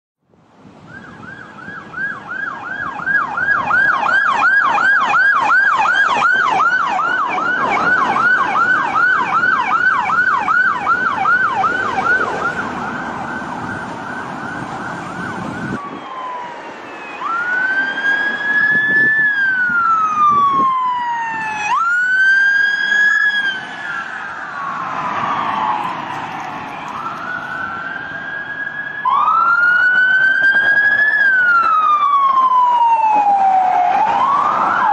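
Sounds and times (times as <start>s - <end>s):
police siren: 0.6s - 34.9s.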